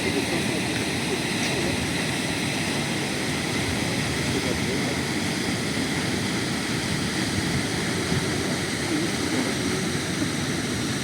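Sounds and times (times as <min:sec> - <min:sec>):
waterfall pouring into sea: 0:00.0 - 0:11.0.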